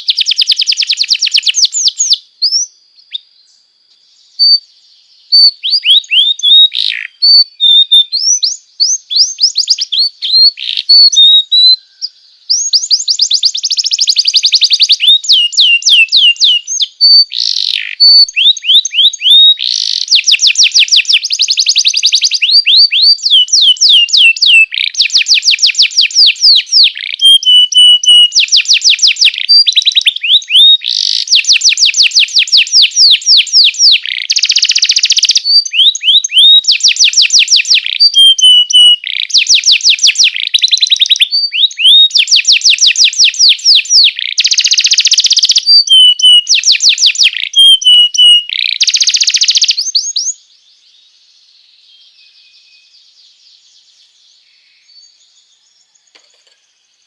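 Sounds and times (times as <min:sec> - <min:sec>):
canary singing: 0:04.2 - 0:50.4.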